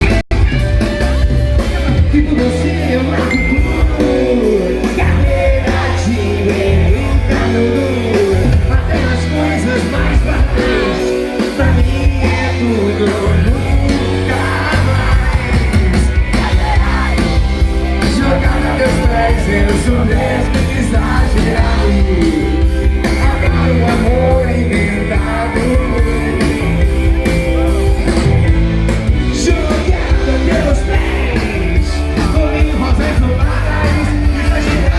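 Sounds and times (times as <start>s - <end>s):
rock band playing: 0.0s - 34.9s
person singing: 1.8s - 28.4s, 29.2s - 34.9s.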